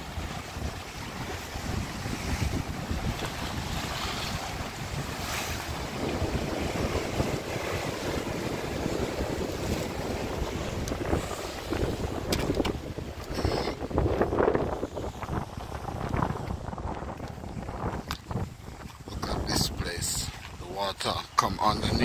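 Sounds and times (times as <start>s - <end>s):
surf breaking on rocks: 0.0s - 18.5s
wind buffeting microphone: 0.0s - 22.0s.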